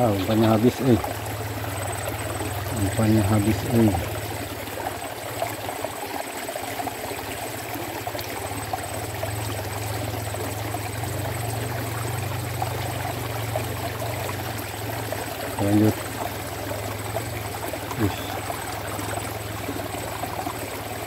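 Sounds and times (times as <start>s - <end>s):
water trickling in ditch: 0.0s - 21.0s.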